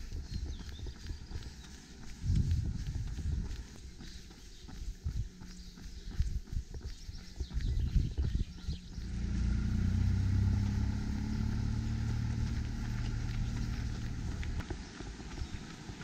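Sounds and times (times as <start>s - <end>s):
motor engine humming: 0.0s - 16.0s
running footsteps on gravel: 0.0s - 16.0s.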